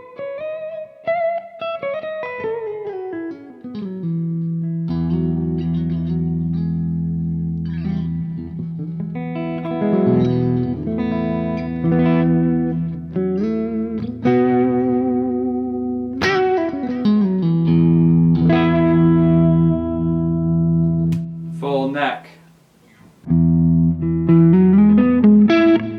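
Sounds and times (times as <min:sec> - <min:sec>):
electric guitar through an amp: 0:00.0 - 0:21.6, 0:23.2 - 0:25.9.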